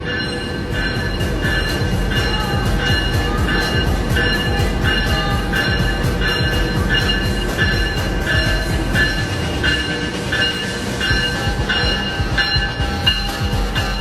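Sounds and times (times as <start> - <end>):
low rumble of a train: 0.0 - 14.0
railway bell ringing: 0.0 - 14.0.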